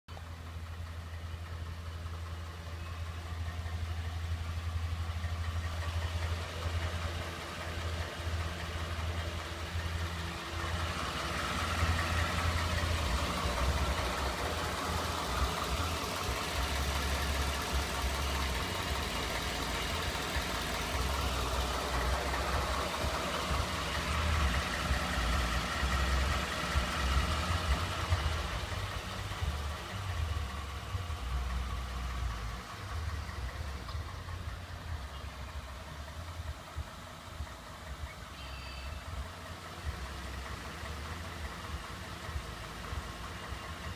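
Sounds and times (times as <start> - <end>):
engine running with knock: 0.1 - 43.9.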